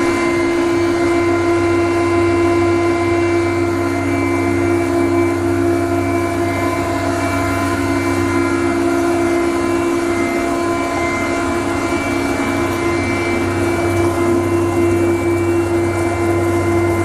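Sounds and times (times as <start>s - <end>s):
mixer and pump humming: 0.0s - 17.0s.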